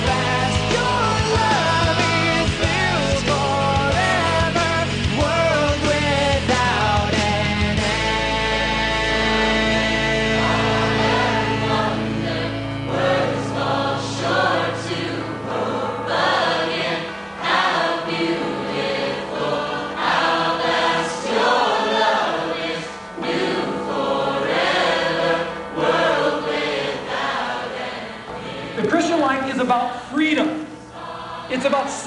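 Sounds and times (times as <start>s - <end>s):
group singing gospel music: 0.0s - 32.0s.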